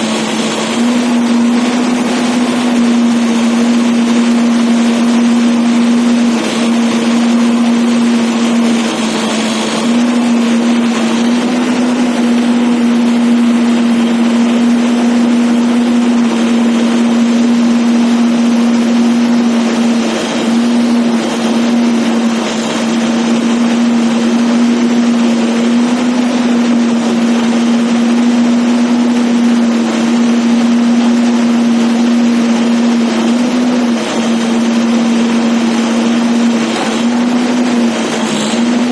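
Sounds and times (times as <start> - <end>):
diesel engine running at high speed: 0.0 - 38.9.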